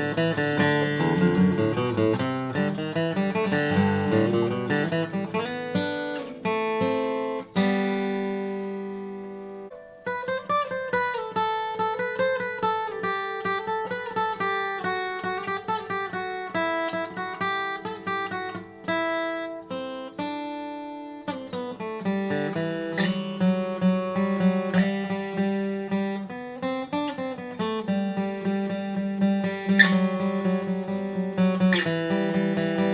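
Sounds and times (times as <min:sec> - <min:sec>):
acoustic guitar playing: 0:00.0 - 0:32.9.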